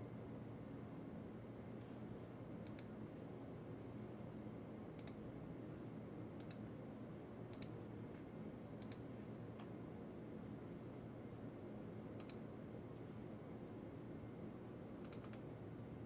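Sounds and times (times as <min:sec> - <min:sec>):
faint low room hum: 0:00.0 - 0:16.0.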